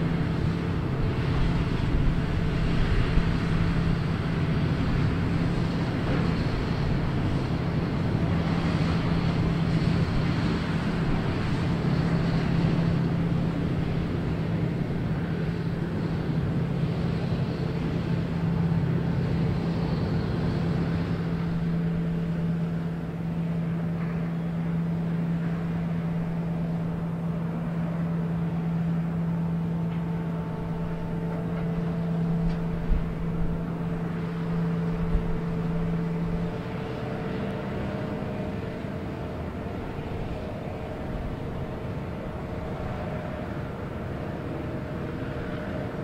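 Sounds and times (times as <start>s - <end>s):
diesel engine humming: 0.0s - 46.0s.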